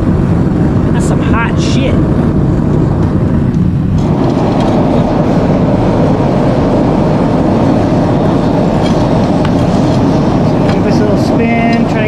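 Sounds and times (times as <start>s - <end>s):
gas forge burner roaring: 0.0s - 12.0s.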